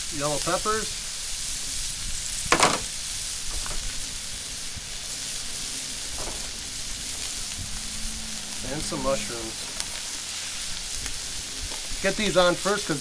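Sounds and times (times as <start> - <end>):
vegetables sizzling on a griddle: 0.0 - 13.0.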